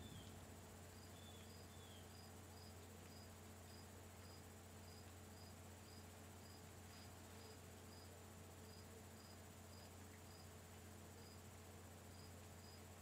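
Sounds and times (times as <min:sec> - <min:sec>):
cricket chirping: 0:00.0 - 0:13.0
low steady hum: 0:00.0 - 0:13.0.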